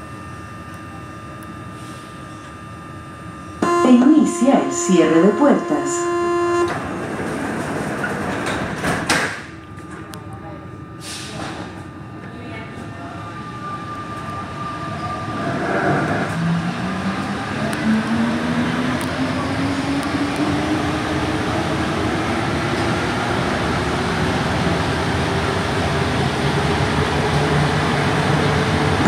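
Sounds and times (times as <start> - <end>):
train running noise: 3.6 - 29.0.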